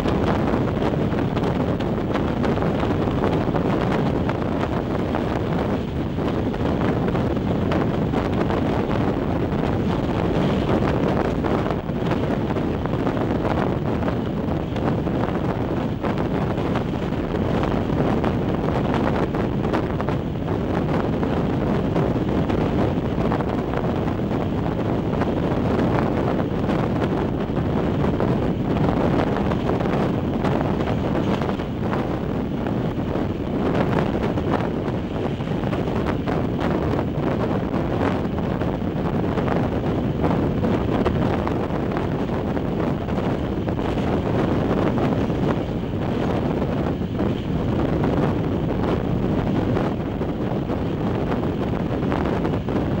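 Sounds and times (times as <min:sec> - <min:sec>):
train running on rails: 0:00.0 - 0:53.0
wind buffeting microphone: 0:00.0 - 0:53.0.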